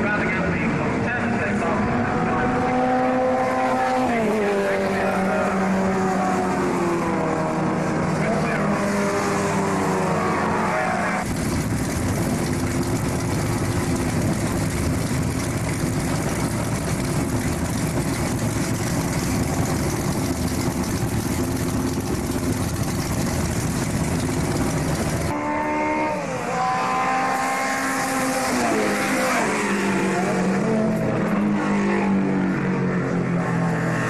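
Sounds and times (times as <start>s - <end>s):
racing car engines rumbling: 0.0s - 34.0s
race car engine pitch changing: 1.2s - 31.2s.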